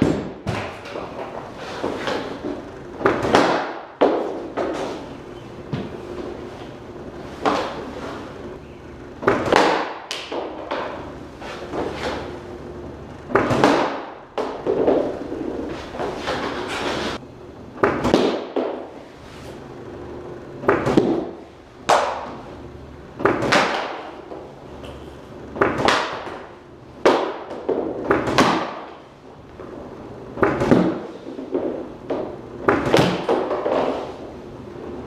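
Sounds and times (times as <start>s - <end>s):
hockey pucks hitting goalie pads: 0.0s - 8.4s, 9.2s - 12.4s, 13.3s - 17.2s, 17.8s - 19.1s, 20.6s - 29.8s, 30.4s - 34.4s.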